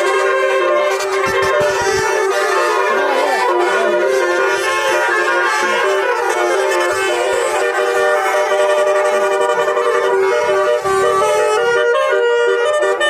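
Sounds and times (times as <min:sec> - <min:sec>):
musical air horns sounding together: 0:00.0 - 0:13.0.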